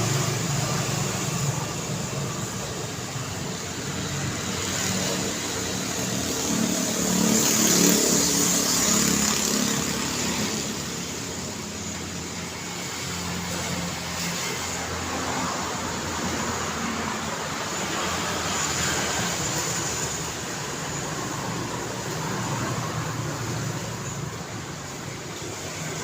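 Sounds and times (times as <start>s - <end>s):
cars passing on road: 0.0s - 26.0s.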